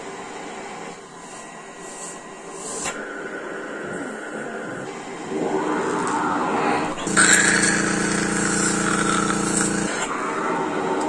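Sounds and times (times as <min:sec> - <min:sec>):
machine motor hum with hissing air: 0:00.0 - 0:11.0
rush of air: 0:01.2 - 0:11.0.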